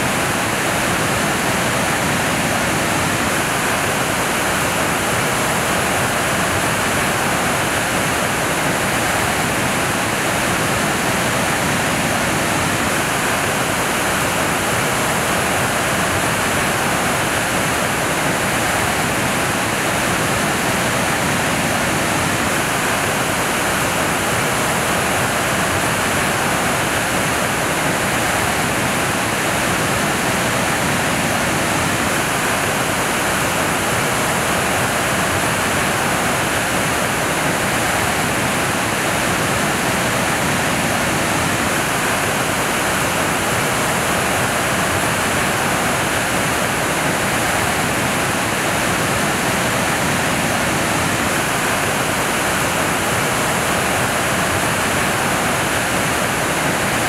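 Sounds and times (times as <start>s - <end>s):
white water rushing over rocks: 0.0s - 57.0s.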